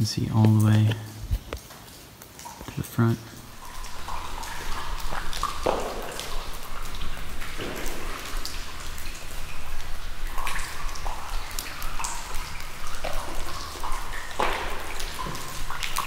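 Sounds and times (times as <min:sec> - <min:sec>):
water dripping with plinks: 0:00.0 - 0:16.0.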